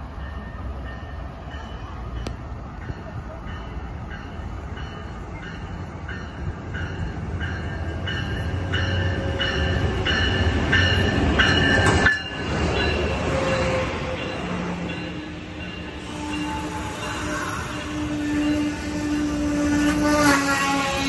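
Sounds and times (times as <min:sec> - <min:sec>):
locomotive bell ringing: 0:00.0 - 0:19.7
train rumbling past: 0:00.0 - 0:21.0.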